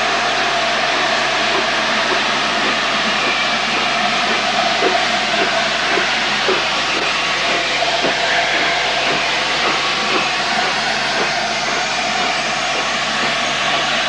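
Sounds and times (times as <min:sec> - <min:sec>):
steam hissing: 0:00.0 - 0:14.0
steam locomotive exhaust beats: 0:00.0 - 0:14.0.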